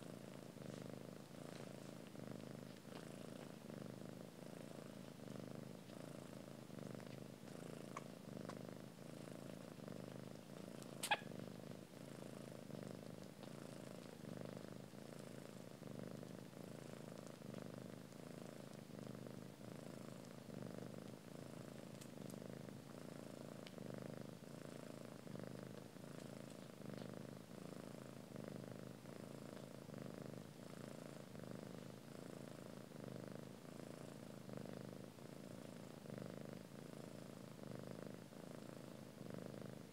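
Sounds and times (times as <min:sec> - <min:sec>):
cats purring: 0:00.0 - 0:39.9.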